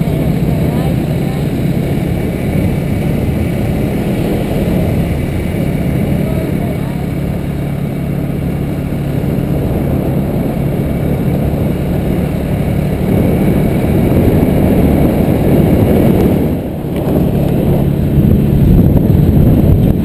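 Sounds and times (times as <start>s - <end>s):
motorbike engine hum: 0.0s - 20.0s
wind rumble on microphone: 0.0s - 20.0s.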